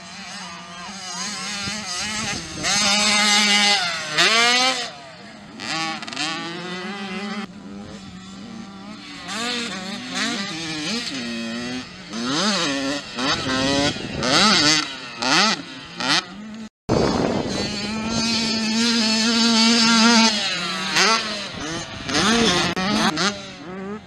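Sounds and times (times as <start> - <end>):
two-stroke dirt bike engines revving: 0.0 - 24.0.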